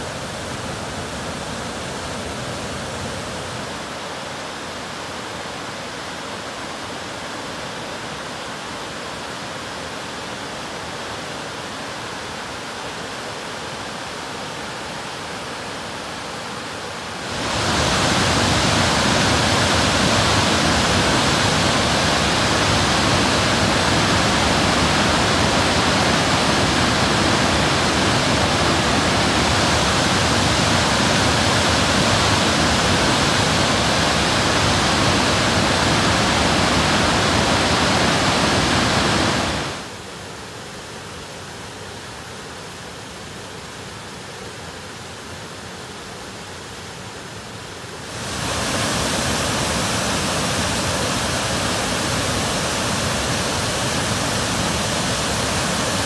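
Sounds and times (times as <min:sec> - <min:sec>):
waterfall rushing: 0:00.0 - 0:40.2, 0:46.4 - 0:56.0.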